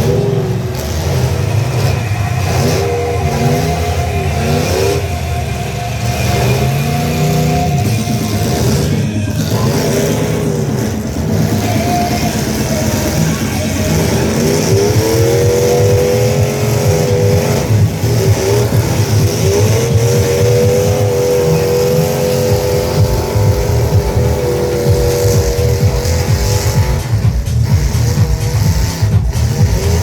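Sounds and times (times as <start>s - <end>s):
steady low engine rumble: 0.0s - 30.0s
truck engine revving: 0.0s - 30.0s.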